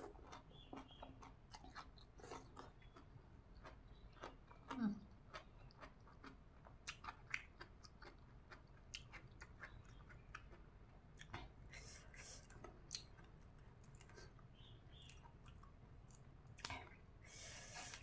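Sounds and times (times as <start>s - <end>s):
faint chewing mouth clicks: 0.0s - 18.0s.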